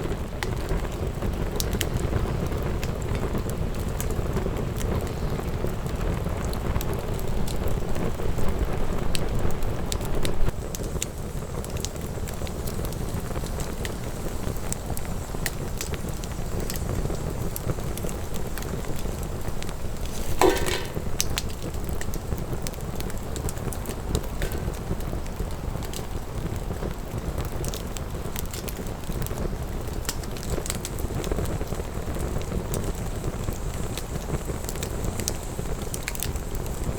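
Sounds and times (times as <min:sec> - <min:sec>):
low rumble of fire: 0:00.0 - 0:36.9
wood fire crackling and popping: 0:00.0 - 0:36.9.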